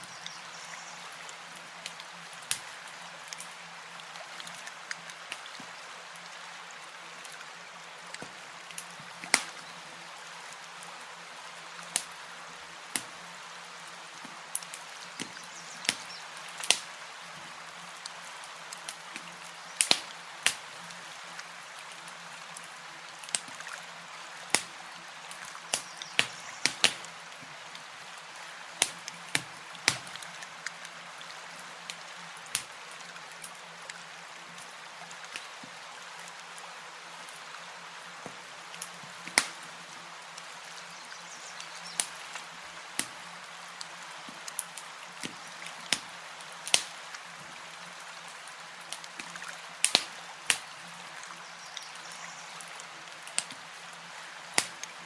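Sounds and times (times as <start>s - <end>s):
campfire crackling: 0.0s - 36.6s, 37.2s - 55.0s.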